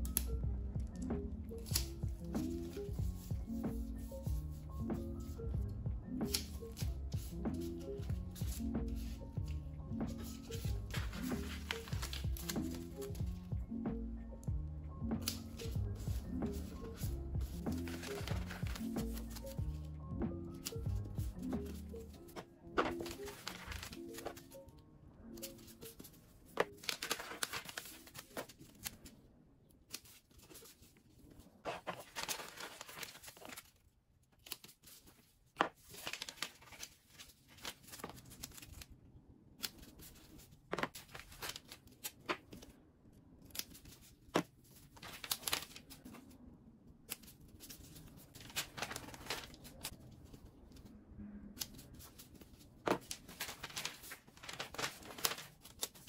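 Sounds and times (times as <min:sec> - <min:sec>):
paper labels rustling and tearing: 0:01.6 - 0:04.4, 0:06.2 - 0:13.3, 0:15.2 - 0:19.8, 0:20.5 - 0:24.6, 0:25.4 - 0:29.1, 0:29.9 - 0:38.9, 0:39.6 - 0:42.7, 0:43.4 - 0:46.3, 0:47.1 - 0:50.9, 0:51.6 - 0:56.0.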